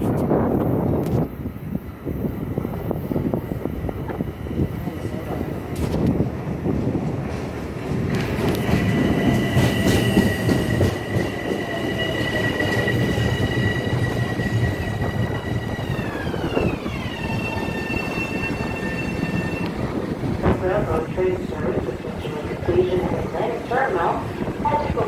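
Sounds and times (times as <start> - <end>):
high steady train whine: 0.0 - 25.0
train wheels rumbling on rails: 0.0 - 25.0.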